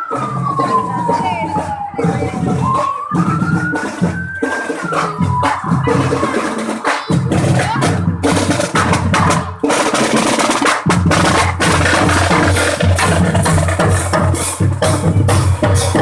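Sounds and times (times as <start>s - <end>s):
loud music with heavy drumming: 0.0s - 16.0s.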